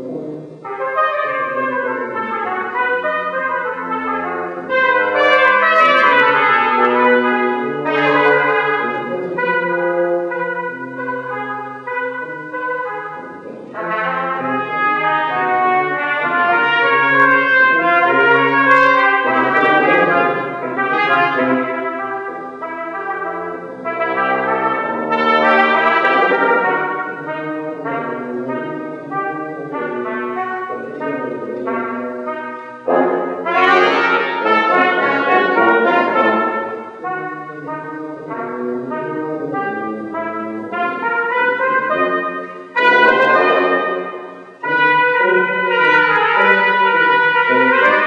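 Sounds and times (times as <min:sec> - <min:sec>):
brass instruments playing melody: 0:00.0 - 0:48.0.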